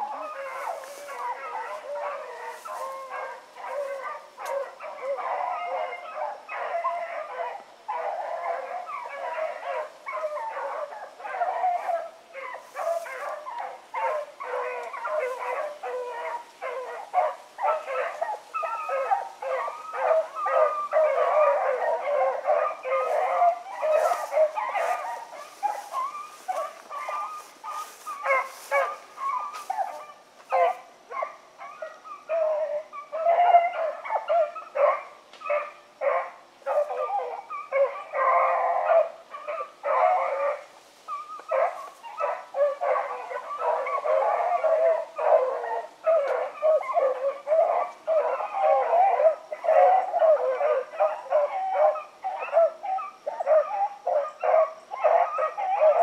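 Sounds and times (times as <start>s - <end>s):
pack of dogs baying: 0.0s - 56.0s.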